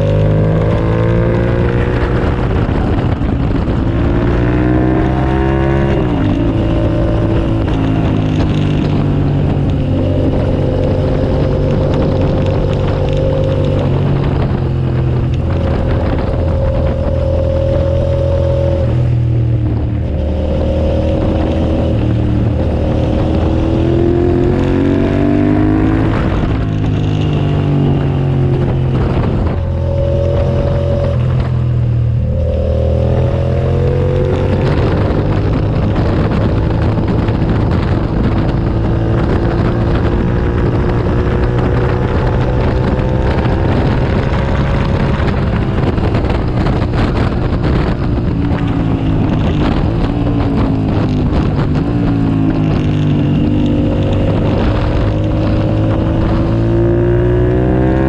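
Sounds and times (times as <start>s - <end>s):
motorcycle engine at racing speed: 0.0s - 58.0s.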